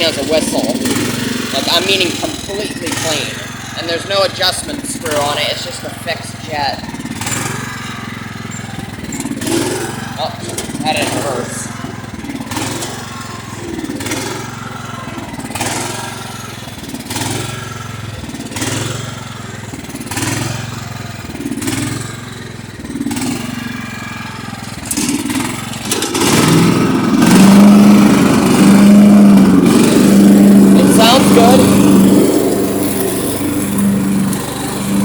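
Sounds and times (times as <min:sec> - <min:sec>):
lawn tractor engine surging: 0:00.0 - 0:35.0.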